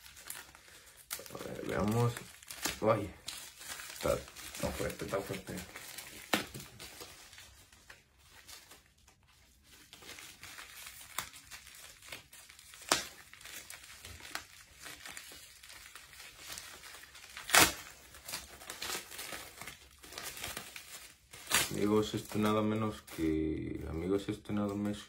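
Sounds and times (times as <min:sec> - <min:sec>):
packaging crinkling and tearing: 0:00.0 - 0:25.0.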